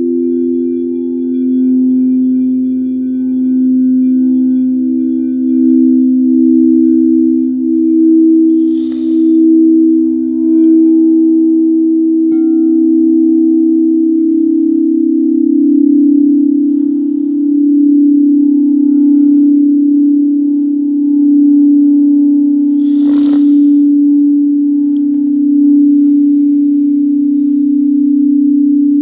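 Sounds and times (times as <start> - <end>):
singing bowls humming: 0.0 - 29.0.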